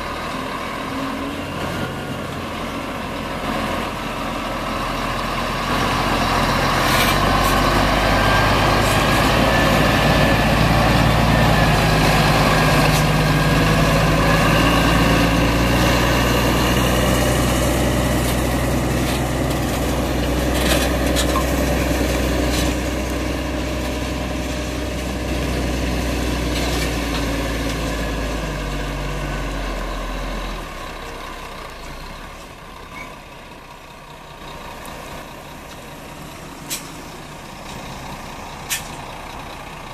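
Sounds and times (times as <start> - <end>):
truck diesel engine driving past: 0.0 - 39.9.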